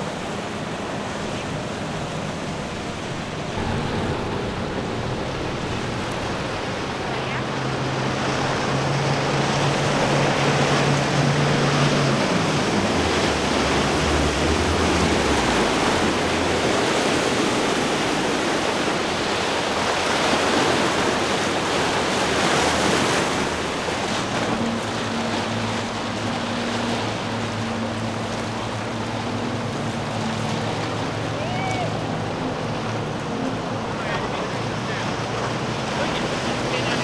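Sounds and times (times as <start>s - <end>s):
another boat engine hum: 0.0s - 37.0s
outboard engines humming: 0.0s - 37.0s
rushing spray and wake water: 0.0s - 37.0s.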